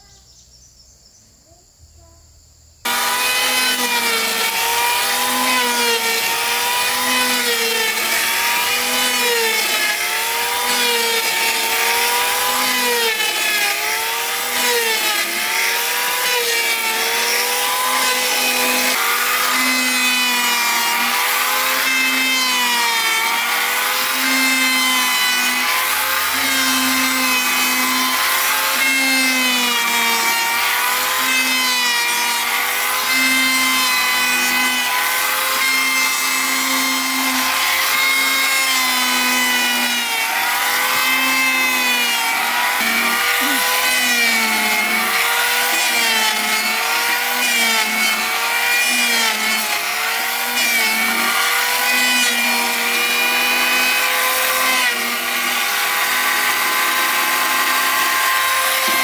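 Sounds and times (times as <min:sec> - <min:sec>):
wood-sawing machine whine: 0:02.8 - 0:59.0.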